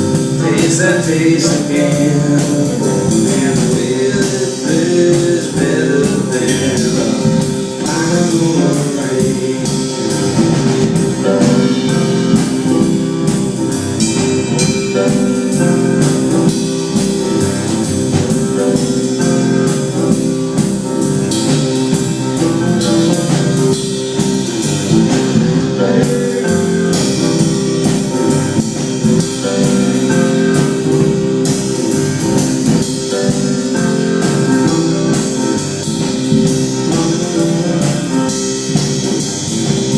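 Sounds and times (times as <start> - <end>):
live blues band playing: 0.0 - 39.9.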